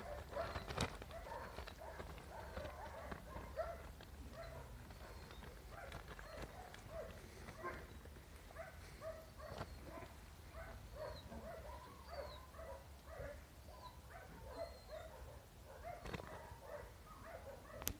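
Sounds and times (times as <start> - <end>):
puppies yipping and whining: 0.0 - 15.3.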